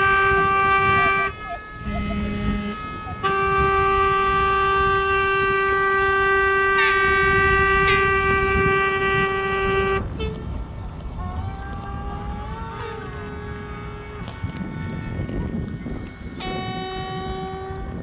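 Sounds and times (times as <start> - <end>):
distant horns: 0.0 - 18.0
ship's horn long blast: 0.0 - 18.0.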